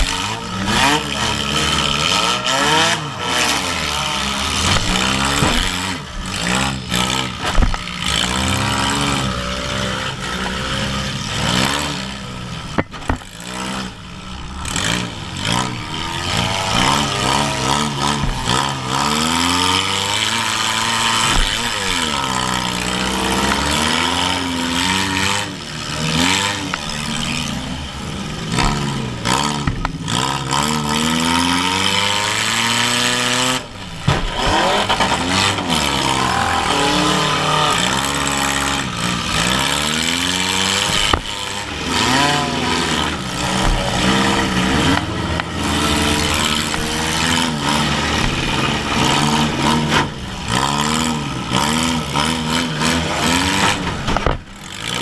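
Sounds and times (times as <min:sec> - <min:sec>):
car engine revving: 0:00.0 - 0:55.0
other car engines running: 0:00.0 - 0:55.0.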